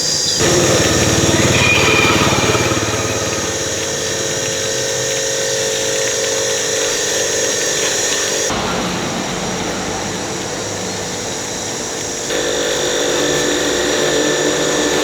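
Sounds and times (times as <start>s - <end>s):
different mechanical sound: 0.0s - 15.0s
machine pulsing and humming: 0.0s - 15.0s.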